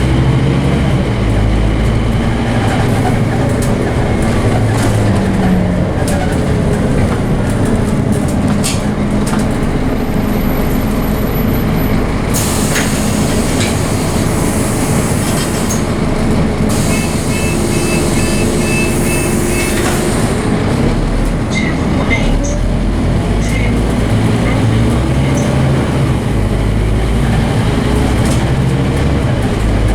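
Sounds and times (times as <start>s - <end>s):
bus body rattles: 0.0s - 29.9s
bus engine running under load: 0.0s - 29.9s
road noise: 0.0s - 29.9s.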